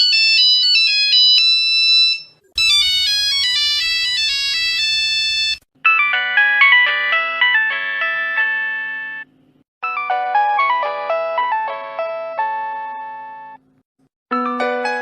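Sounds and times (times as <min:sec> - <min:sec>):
phone ringtone melodies: 0:00.0 - 0:13.6, 0:14.3 - 0:15.0.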